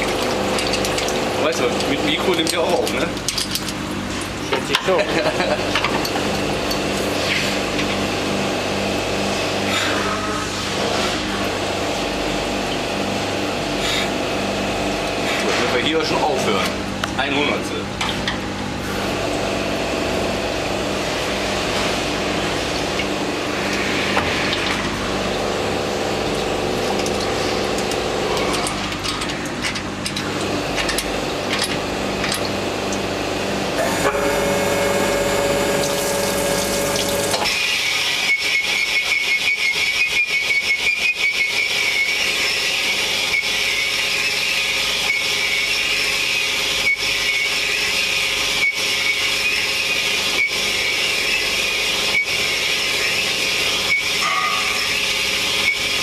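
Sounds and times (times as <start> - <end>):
metalworking machine running: 0.0 - 56.0.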